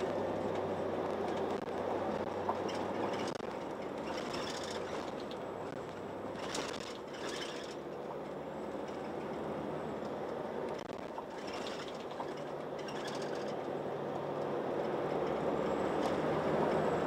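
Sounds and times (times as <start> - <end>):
bus body rattling: 0.0 - 17.0
bus engine hum: 0.0 - 17.0
road noise: 0.0 - 17.0.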